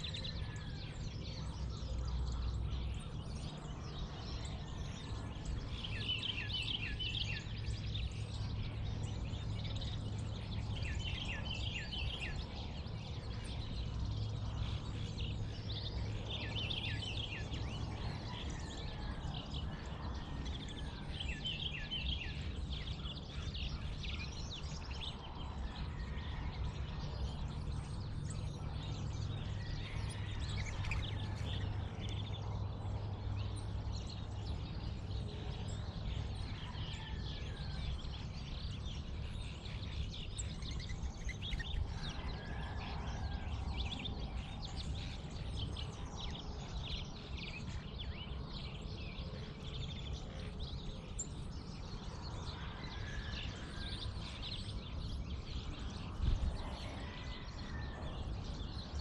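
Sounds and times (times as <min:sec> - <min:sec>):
songbirds chirping: 0:00.0 - 0:59.0
steady low rumble: 0:00.0 - 0:59.0.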